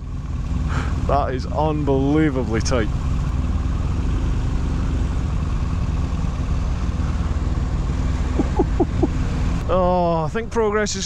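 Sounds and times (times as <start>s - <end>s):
motorcycle engine idling: 0.0s - 10.2s.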